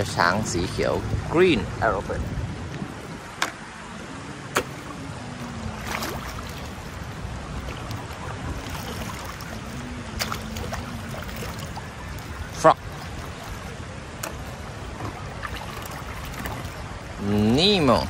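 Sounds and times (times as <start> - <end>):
faint wavering hum: 0.0 - 18.0
water lapping at shore: 0.0 - 18.0
wind rumble on microphone: 0.0 - 18.0.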